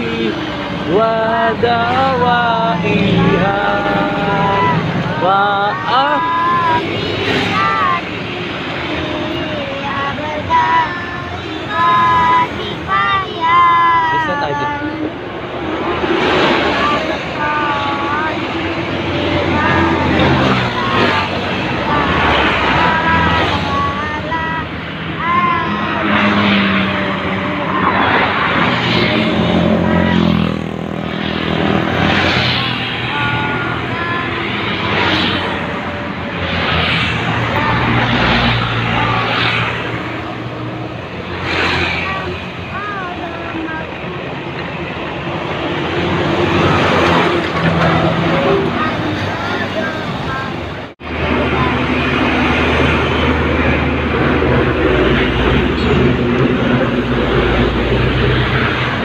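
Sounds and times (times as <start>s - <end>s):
trucks passing: 0.0s - 59.0s
tyre and road noise: 0.0s - 59.0s.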